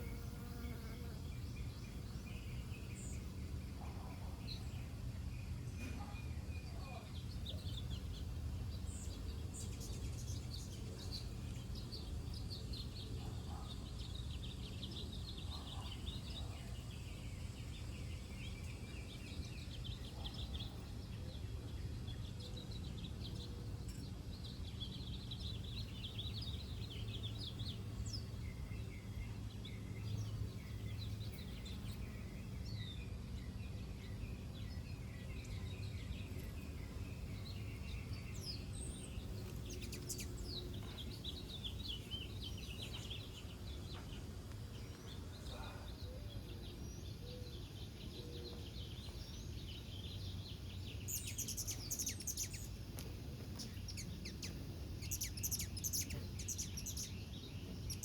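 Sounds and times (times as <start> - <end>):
small birds chirping and twittering: 0.0 - 58.0.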